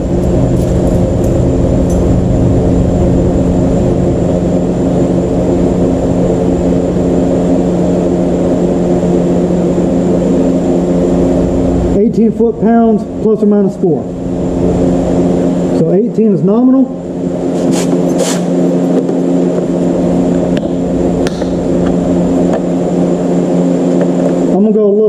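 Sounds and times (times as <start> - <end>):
engine droning steadily: 0.0 - 25.0.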